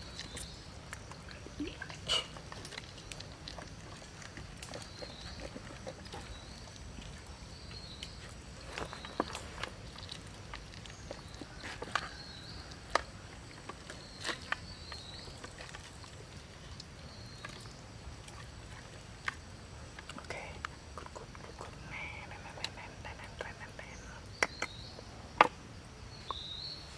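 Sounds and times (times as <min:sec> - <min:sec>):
clicks and knocks of sticks: 0:00.0 - 0:21.8, 0:24.3 - 0:25.6.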